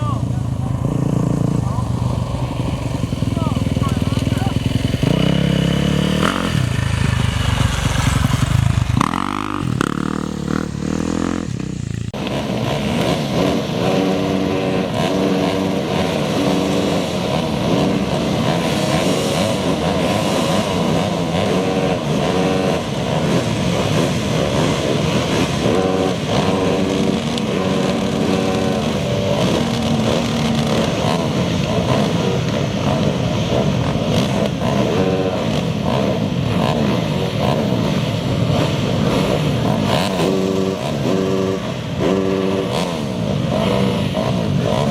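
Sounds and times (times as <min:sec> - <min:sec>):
motorcycle engines running loudly: 0:00.0 - 0:44.9.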